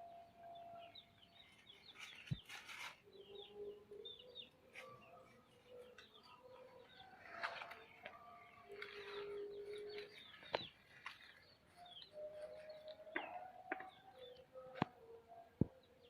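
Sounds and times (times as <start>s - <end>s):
chickens calling: 0.0s - 16.0s
small birds chirping: 0.0s - 16.0s.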